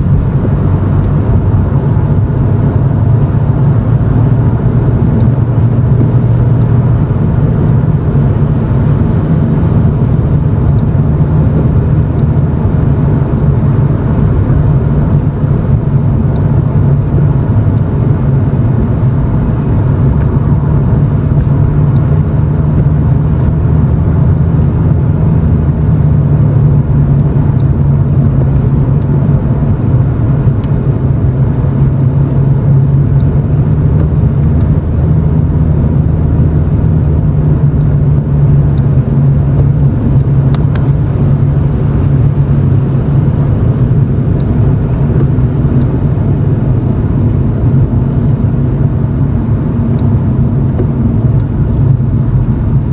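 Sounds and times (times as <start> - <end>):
car exhaust drone from cabin: 0.0 - 52.9.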